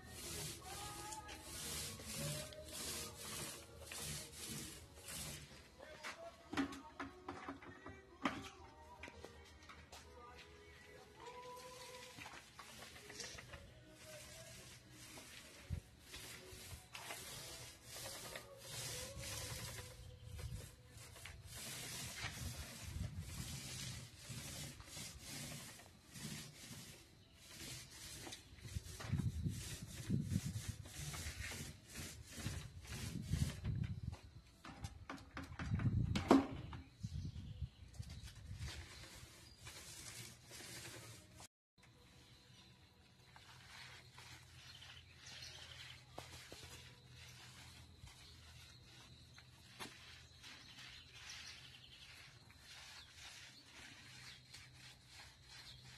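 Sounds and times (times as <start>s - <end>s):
paint roller swishing on wall: 0.0s - 55.9s.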